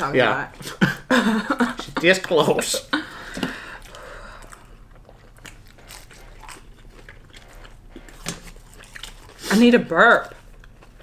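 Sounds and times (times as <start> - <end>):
person chewing crunchy food: 0.5 - 11.0.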